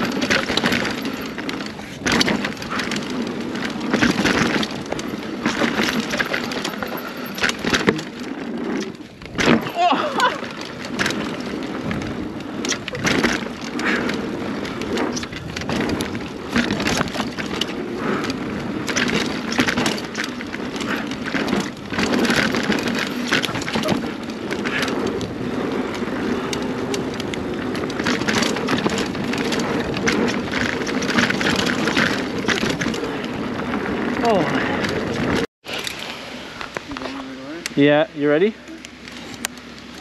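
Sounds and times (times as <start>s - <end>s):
bike clicks knocks and rattles: 0.0s - 37.8s
bike tyres rumbling on dirt: 0.0s - 40.0s.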